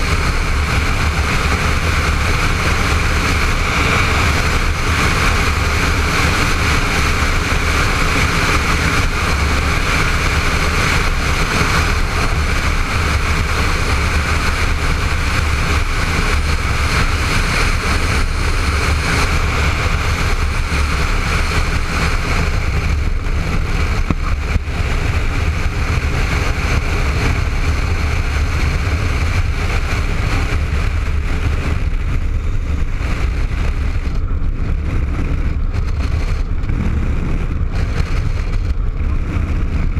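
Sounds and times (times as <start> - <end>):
motorcycle engine running: 0.0 - 39.9
rushing air: 0.0 - 39.9.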